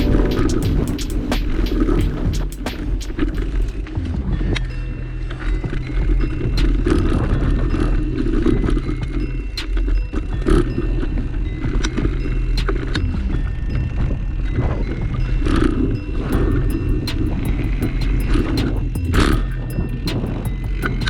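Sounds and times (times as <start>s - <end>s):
background music with bass: 0.0s - 21.0s.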